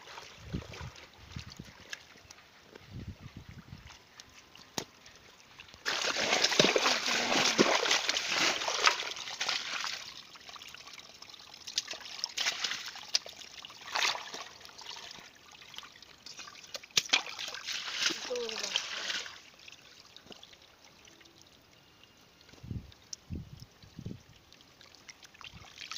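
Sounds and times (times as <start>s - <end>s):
muddy water splashing: 0.0s - 21.2s, 24.4s - 25.9s.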